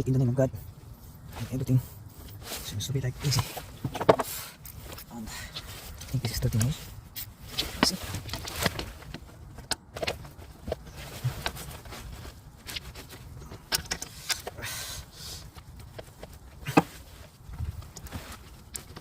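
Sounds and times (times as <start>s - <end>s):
rustle: 0.0s - 19.0s.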